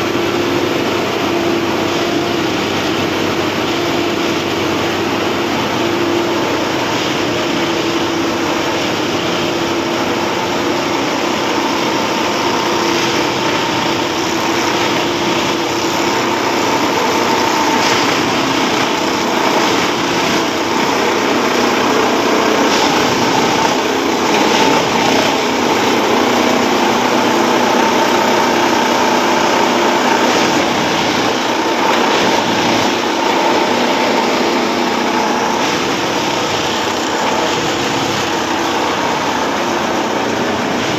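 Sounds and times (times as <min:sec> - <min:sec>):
machine engine and hydraulics: 0:00.0 - 0:40.9
tamping tines vibrating in ballast: 0:01.8 - 0:40.9.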